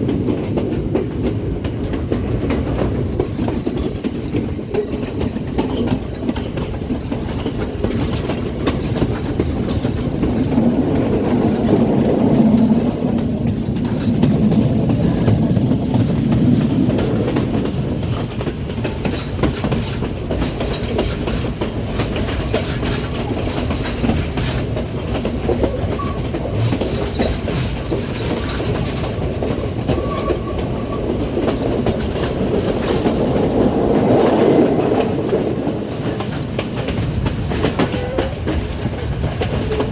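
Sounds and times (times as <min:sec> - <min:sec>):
train rumble: 0:00.0 - 0:39.9
wheels clickety-clack over rail joints: 0:00.0 - 0:39.9.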